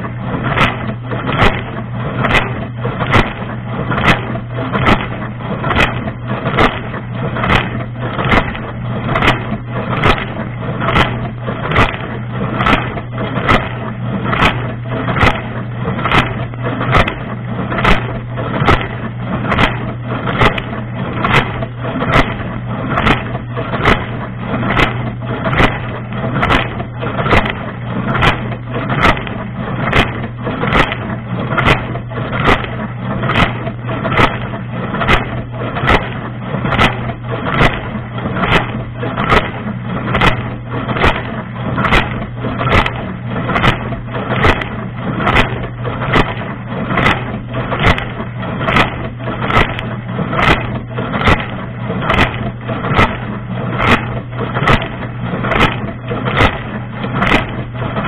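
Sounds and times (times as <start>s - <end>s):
dishwasher pump humming: 0.0s - 58.0s
sharp water splash: 0.4s - 58.0s.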